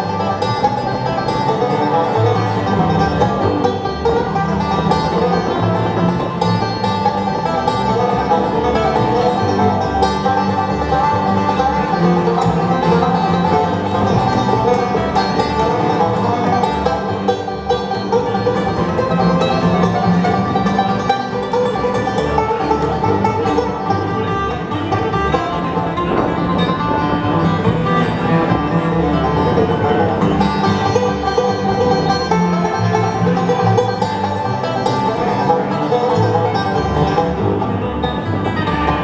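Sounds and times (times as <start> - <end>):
bluegrass band playing: 0.0 - 39.0
walking bass line: 0.0 - 39.0.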